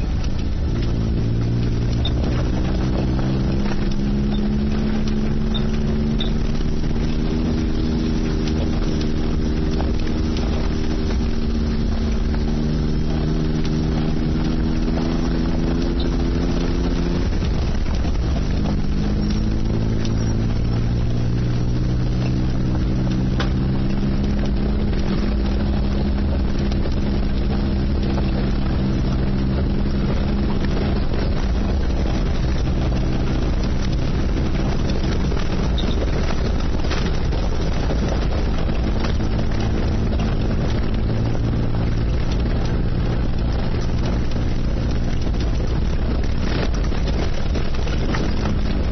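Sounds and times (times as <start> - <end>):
car engine running under load: 0.0 - 48.9
wind on microphone: 0.0 - 48.9.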